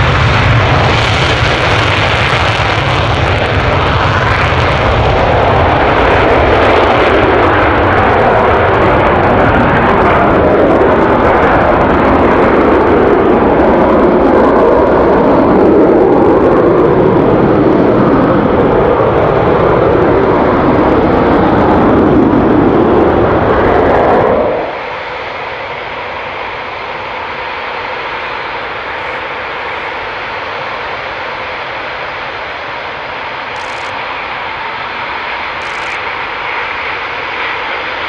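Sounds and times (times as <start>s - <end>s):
loud jet roar: 0.0s - 38.0s
quieter steady jet noise: 0.0s - 38.0s.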